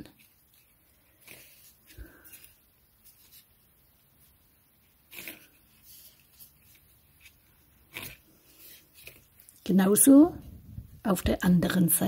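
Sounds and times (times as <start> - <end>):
cord rustling in hands: 0.0 - 11.1.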